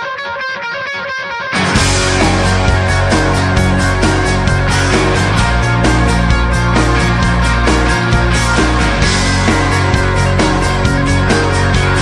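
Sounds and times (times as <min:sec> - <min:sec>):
rock band music: 0:00.0 - 0:12.0.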